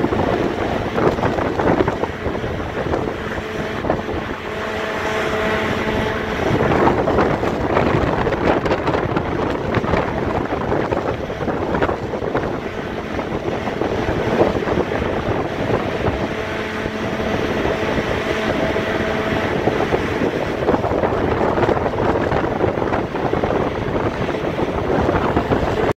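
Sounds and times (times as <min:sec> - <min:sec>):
gusty wind buffeting microphone: 0:00.0 - 0:25.9.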